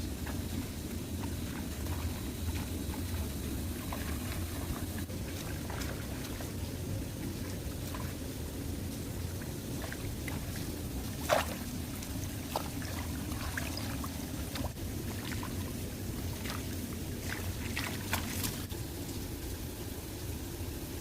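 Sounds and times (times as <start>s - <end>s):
water splashes: 0.0s - 19.8s
shallow water running: 0.0s - 21.0s.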